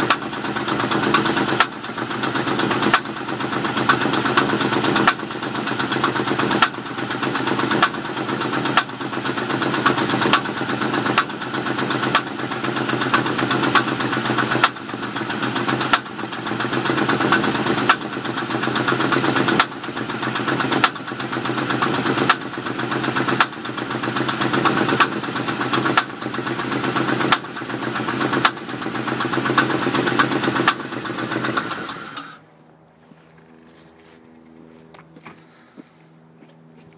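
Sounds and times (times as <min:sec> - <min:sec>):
car engine idling: 0:00.0 - 0:36.8.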